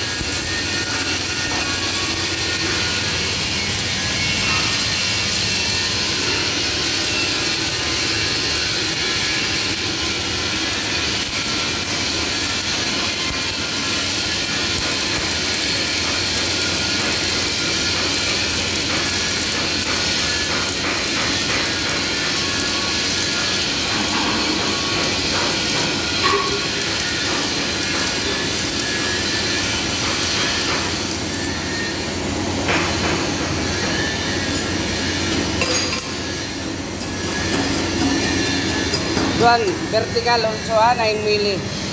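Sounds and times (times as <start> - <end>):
electric arc welding crackling hiss: 0.0 - 41.9.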